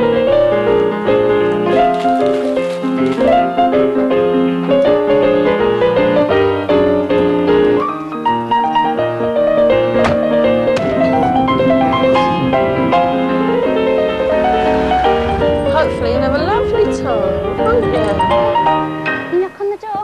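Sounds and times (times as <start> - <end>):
lively piano music: 0.0 - 20.0.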